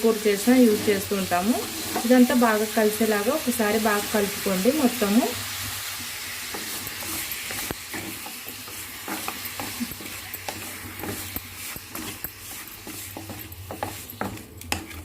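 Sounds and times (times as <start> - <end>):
meat sizzling in a pan: 0.0 - 15.0
spoon scraping and knocking pan: 0.3 - 15.0.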